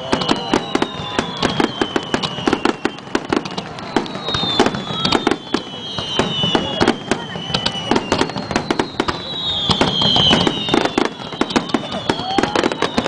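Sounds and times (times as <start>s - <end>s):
descending firework whistle: 0.0s - 13.0s
fireworks cracking and popping: 0.0s - 13.0s.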